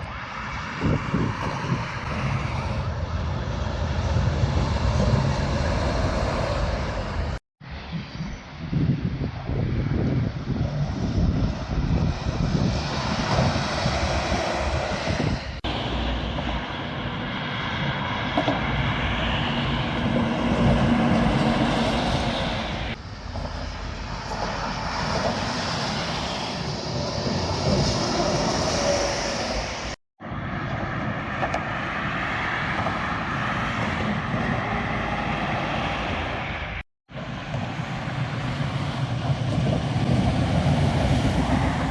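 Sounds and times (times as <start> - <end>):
heavy trucks passing on highway: 0.0 - 8.0, 9.5 - 41.9.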